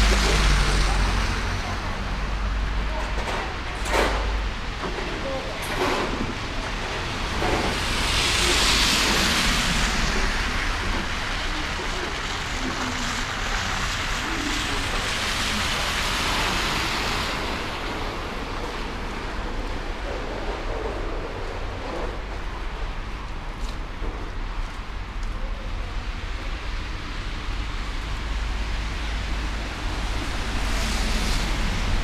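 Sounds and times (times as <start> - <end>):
low traffic rumble: 0.0 - 32.0.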